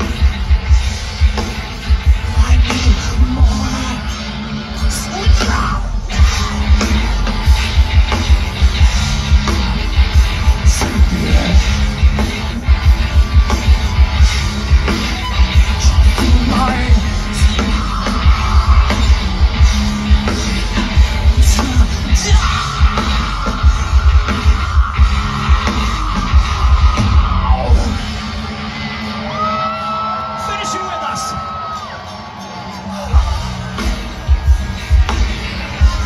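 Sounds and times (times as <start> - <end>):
bass guitar: 0.0 - 30.1, 31.4 - 36.0
distorted electric guitars: 0.0 - 36.0
heavy drums: 0.0 - 36.0.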